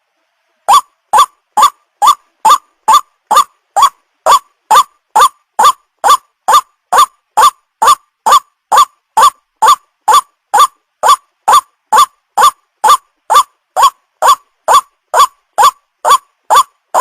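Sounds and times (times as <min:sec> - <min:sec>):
bird call recording: 0:00.6 - 0:17.0.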